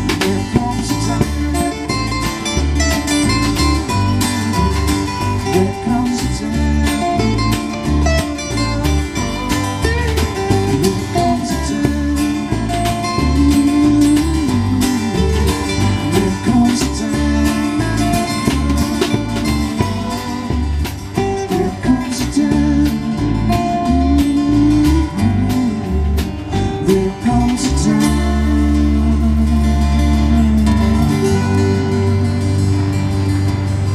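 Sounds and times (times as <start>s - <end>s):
lead vocal singing: 0.0s - 33.2s
banjo: 0.0s - 33.9s
drum kit: 0.0s - 33.9s
strummed acoustic guitar: 0.0s - 33.9s
upright bass: 0.0s - 33.9s.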